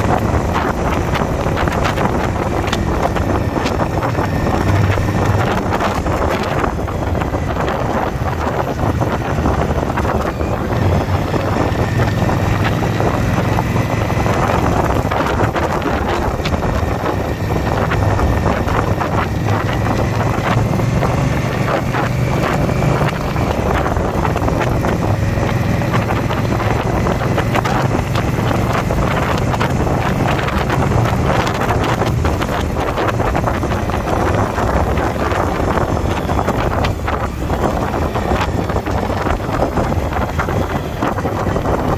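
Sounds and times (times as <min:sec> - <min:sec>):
motorcycle engine running: 0:00.0 - 0:41.9
wind buffeting microphone: 0:00.0 - 0:41.9.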